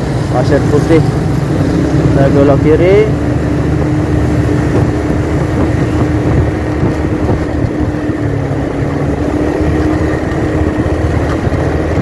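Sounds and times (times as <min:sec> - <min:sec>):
motorcycle engine cruising: 0:00.0 - 0:12.0
road noise: 0:00.0 - 0:12.0.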